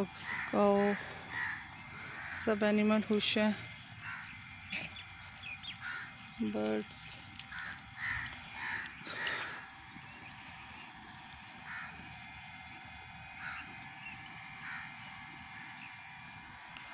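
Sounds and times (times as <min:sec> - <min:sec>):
birds calling: 0:00.0 - 0:16.9.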